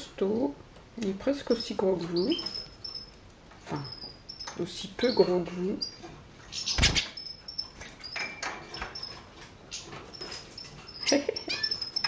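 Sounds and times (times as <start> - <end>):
birds chirping: 1.2 - 12.0.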